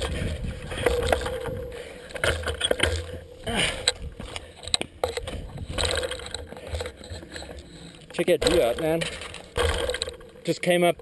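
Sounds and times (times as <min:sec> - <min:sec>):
wind rumbling on microphone: 0:00.0 - 0:10.4
knocks and scrapes of handling: 0:00.0 - 0:10.5.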